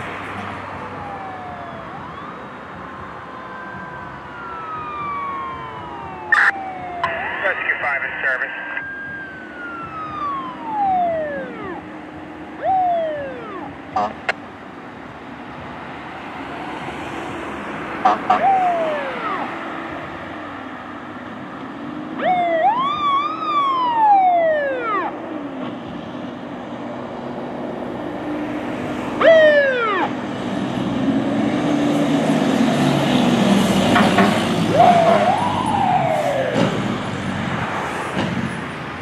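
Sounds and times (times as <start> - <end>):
fire engine siren wailing: 0.0 - 26.6, 27.7 - 39.0
truck engine passing: 0.0 - 39.0.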